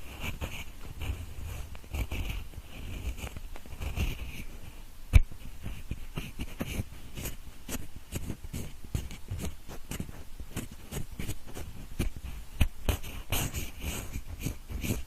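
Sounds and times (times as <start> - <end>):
pencil scratching close to microphone: 0.0 - 15.0.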